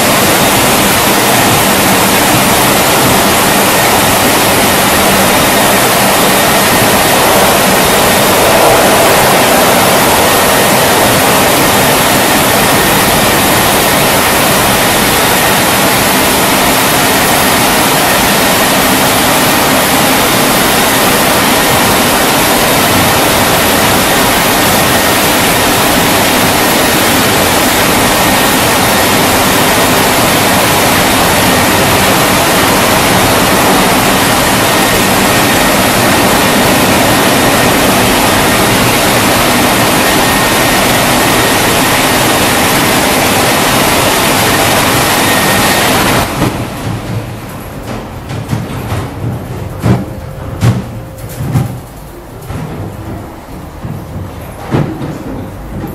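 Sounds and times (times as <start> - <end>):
car wash rushing noise: 0.0 - 55.9.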